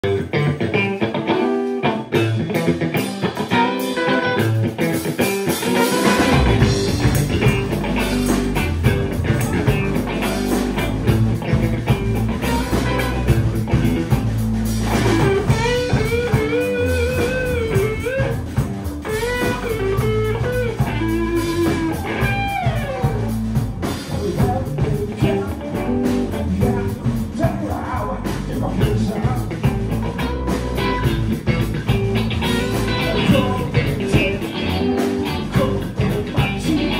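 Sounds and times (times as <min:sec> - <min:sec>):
live rock band playing: 0:00.0 - 0:36.9.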